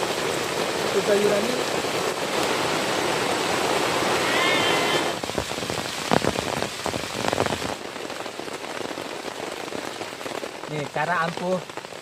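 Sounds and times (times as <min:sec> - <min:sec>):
raindrops tapping: 0:00.0 - 0:04.3, 0:05.2 - 0:12.0
heavy rain pouring: 0:00.0 - 0:12.0.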